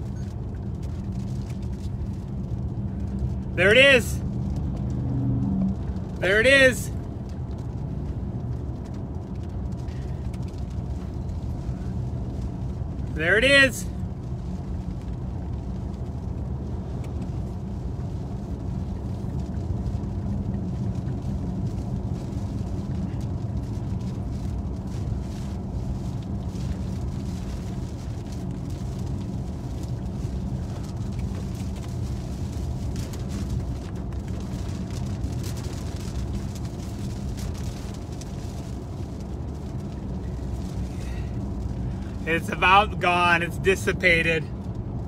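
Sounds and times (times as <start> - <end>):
car road and engine noise: 0.0 - 45.0
rain tapping on windshield: 0.0 - 45.0.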